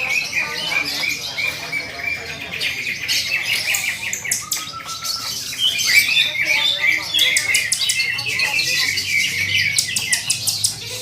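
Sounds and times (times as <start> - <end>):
bird chips and clicks: 0.0 - 11.0
birds singing and chattering: 0.0 - 11.0.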